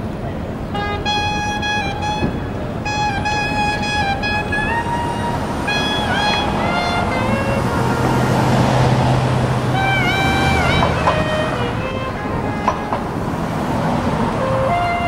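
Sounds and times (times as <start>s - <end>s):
sliding single-note tune: 0.0s - 15.0s
street traffic: 0.0s - 15.0s
vehicle engine humming: 0.0s - 15.0s.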